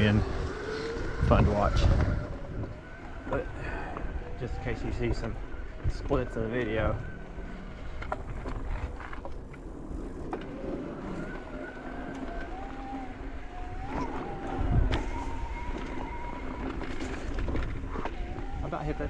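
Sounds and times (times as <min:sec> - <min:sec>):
electric bike motor whining: 0:00.0 - 0:19.0
tyres rumbling on trail: 0:00.0 - 0:19.0.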